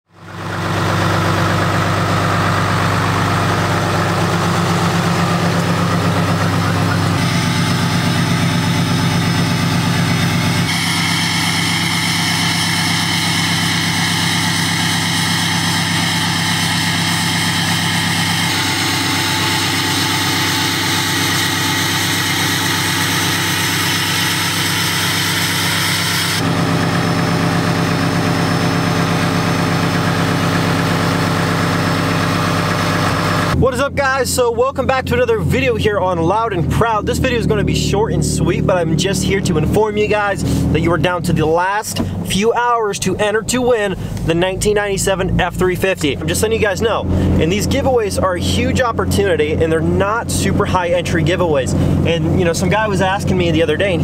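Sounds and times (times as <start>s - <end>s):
diesel truck engines idling: 0.1s - 54.0s.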